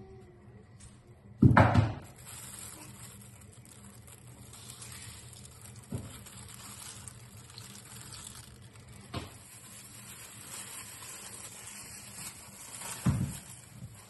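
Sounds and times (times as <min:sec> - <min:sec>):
plastic bag rustling: 0:02.0 - 0:14.0
water trickling into plastic bag: 0:02.0 - 0:14.0.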